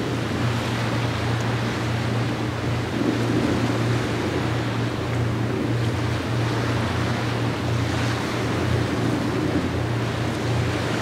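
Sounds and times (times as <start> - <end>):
waves: 0.0 - 11.0
wind: 0.0 - 11.0.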